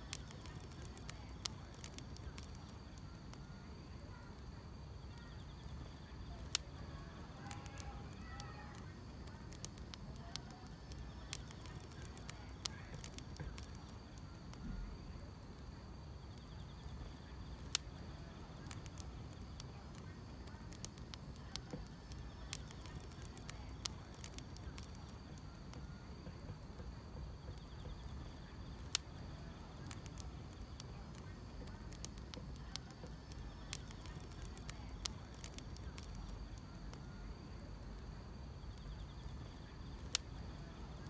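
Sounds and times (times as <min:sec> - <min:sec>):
grass insects chirring: 0:00.0 - 0:03.4, 0:05.0 - 0:14.6, 0:16.2 - 0:41.0
wood fire crackling: 0:00.0 - 0:41.0.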